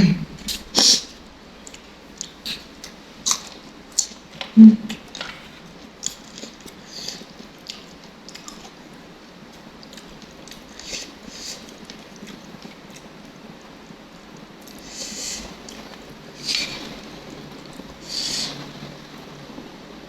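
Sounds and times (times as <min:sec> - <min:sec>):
person chewing food: 0:00.3 - 0:18.7.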